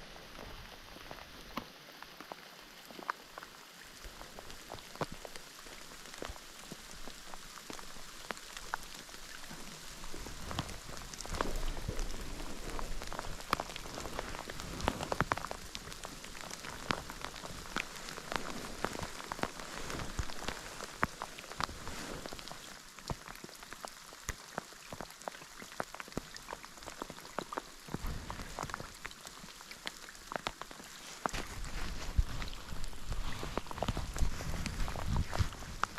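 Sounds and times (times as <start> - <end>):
steady rain hiss: 0.0 - 35.9
raindrops ticking: 0.1 - 35.9.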